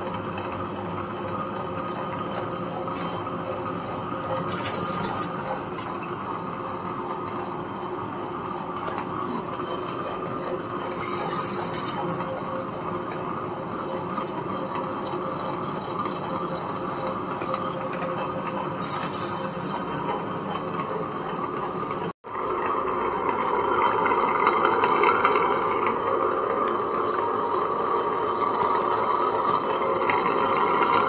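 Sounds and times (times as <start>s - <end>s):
wet grinder motor humming: 0.0s - 31.0s.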